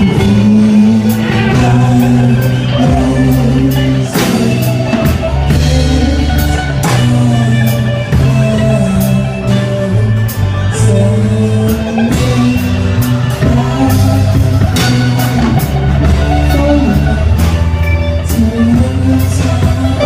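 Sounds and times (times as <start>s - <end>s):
drum kit: 0.0s - 20.0s
electric guitar: 0.0s - 20.0s
low bass notes: 0.0s - 20.0s.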